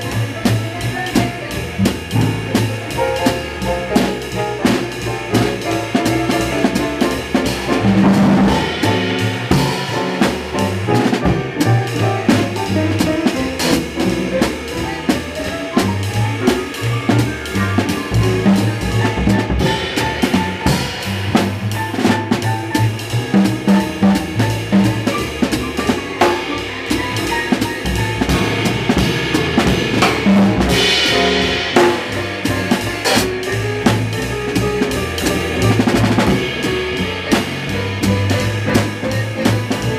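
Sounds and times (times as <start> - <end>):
plucked double bass: 0.0 - 39.9
snare drum: 0.0 - 39.9.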